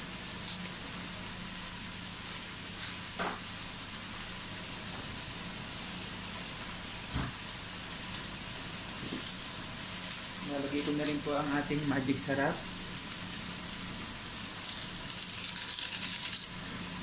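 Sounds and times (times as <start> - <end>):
chicken wings sizzling in a pot: 0.0 - 17.0.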